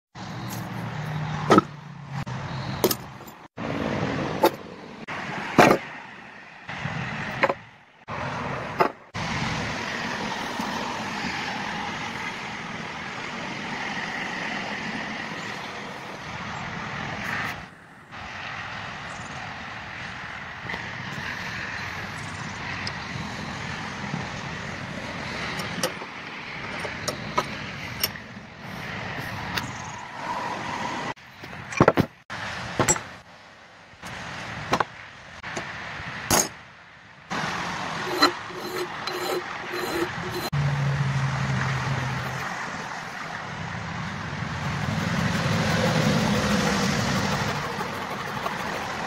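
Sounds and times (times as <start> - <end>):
outdoor background noise: 0.1 - 49.0.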